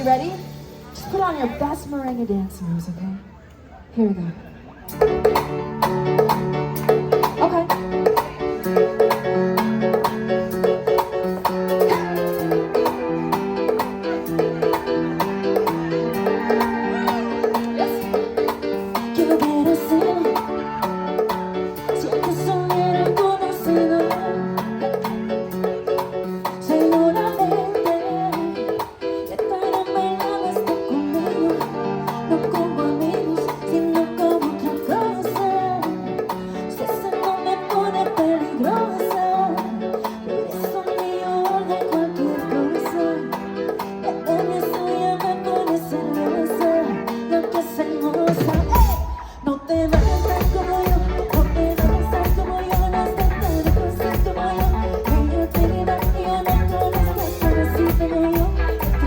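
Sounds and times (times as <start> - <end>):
latin band playing merengue: 0.0 - 2.2, 4.9 - 59.0
melodic instrumental line: 4.9 - 59.0.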